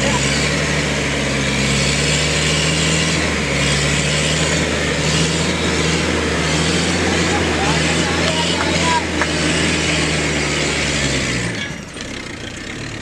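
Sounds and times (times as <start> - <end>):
engine running at high revs: 0.0 - 13.0
wheels spinning in mud: 0.0 - 13.0.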